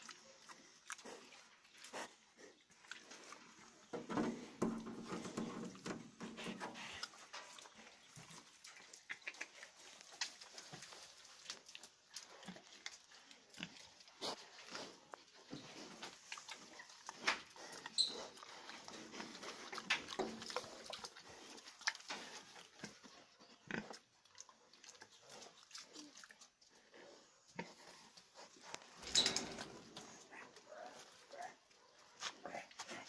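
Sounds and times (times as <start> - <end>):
animal noises: 0.0 - 33.0.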